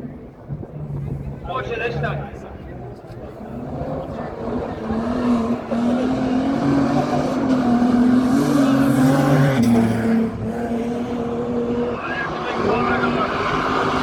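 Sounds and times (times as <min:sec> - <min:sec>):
rally car engine revving: 0:00.1 - 0:14.0.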